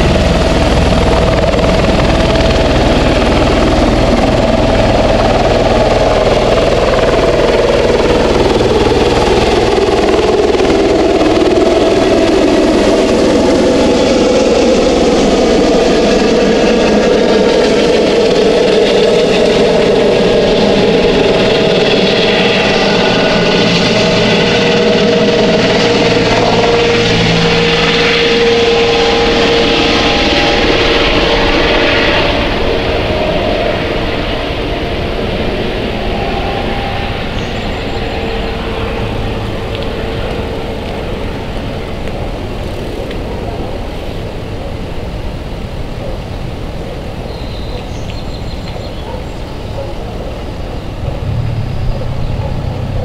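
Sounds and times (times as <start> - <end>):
helicopter flying overhead: 0.0 - 53.0
low engine hum: 0.0 - 53.0.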